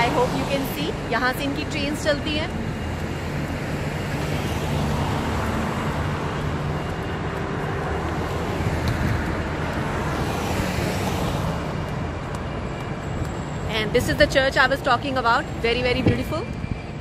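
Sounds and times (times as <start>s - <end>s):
traffic passing: 0.0s - 17.0s.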